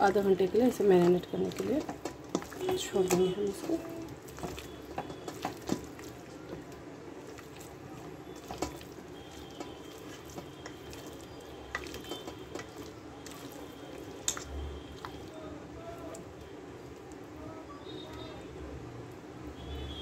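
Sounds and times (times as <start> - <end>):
hand squishing wet marinade: 0.0 - 18.4.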